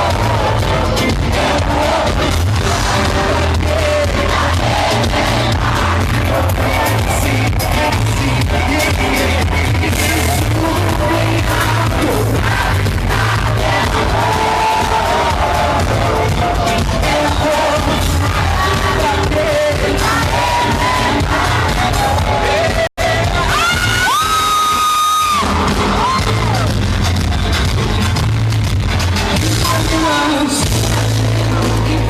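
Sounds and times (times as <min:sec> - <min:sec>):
heavy bass line: 0:00.0 - 0:24.2, 0:25.3 - 0:32.0
person singing: 0:00.0 - 0:24.8, 0:29.3 - 0:32.0
live pop band playing: 0:00.0 - 0:32.0.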